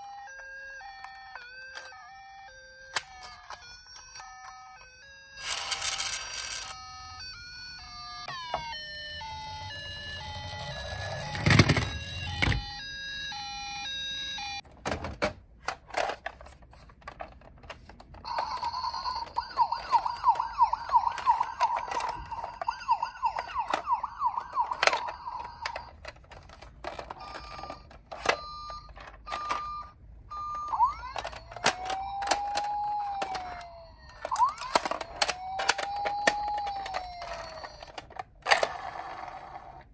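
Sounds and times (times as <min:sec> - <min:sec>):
plastic toys clicking and knocking: 0:00.0 - 0:02.0, 0:02.8 - 0:06.8, 0:10.5 - 0:12.6, 0:14.8 - 0:39.9
toy siren: 0:00.0 - 0:14.6, 0:18.2 - 0:26.0, 0:26.9 - 0:39.9.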